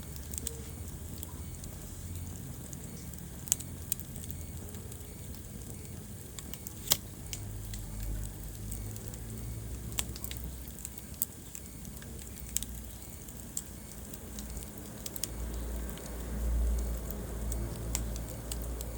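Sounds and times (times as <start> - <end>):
fire crackling and popping: 0.0 - 18.9
low rumble of flames: 0.0 - 18.9.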